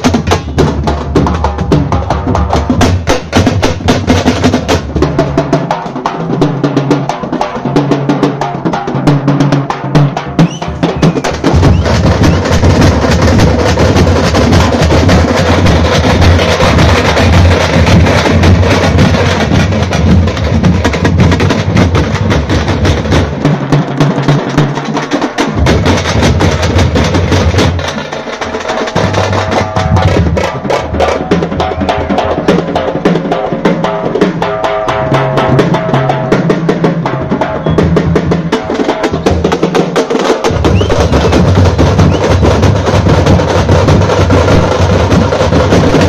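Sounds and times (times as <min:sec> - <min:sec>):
deep bass drum beat: 0:00.0 - 0:28.0, 0:28.9 - 0:46.0
frame drums struck with sticks: 0:00.0 - 0:46.0.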